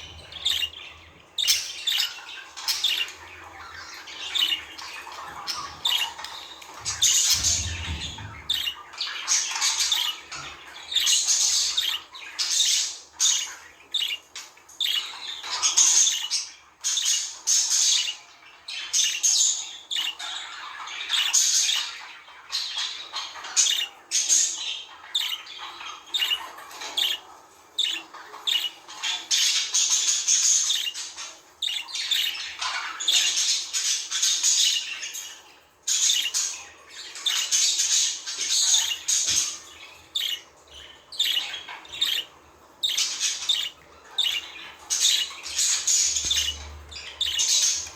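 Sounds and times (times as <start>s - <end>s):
budgerigars chattering: 0.0s - 47.9s.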